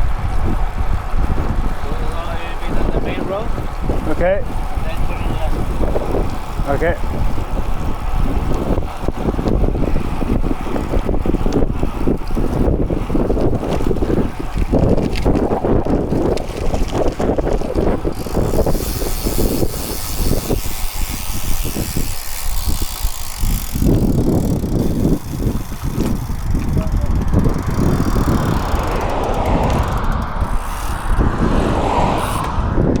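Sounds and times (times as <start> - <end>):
bicycle tyre and road noise: 0.0 - 33.0
wind buffeting microphone: 0.0 - 33.0.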